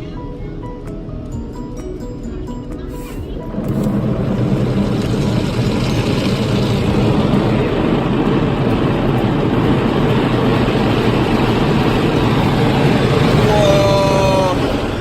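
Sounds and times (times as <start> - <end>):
car wash water and machinery: 0.0 - 15.0.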